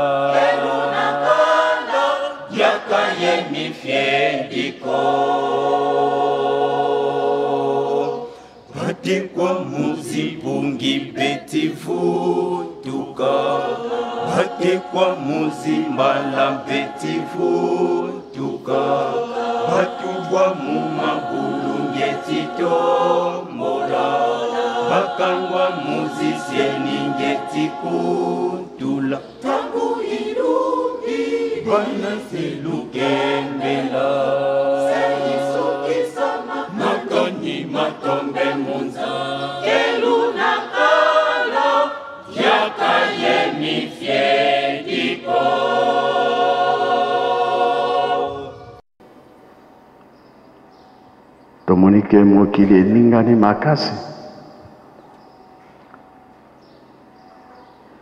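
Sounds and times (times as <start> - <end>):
choir singing in parts: 0.0 - 48.8.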